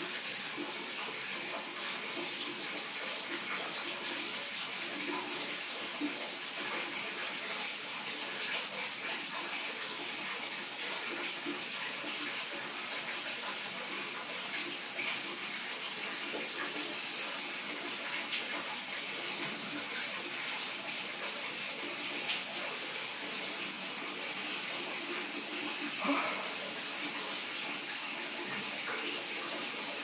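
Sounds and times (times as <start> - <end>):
running water: 0.0 - 30.0.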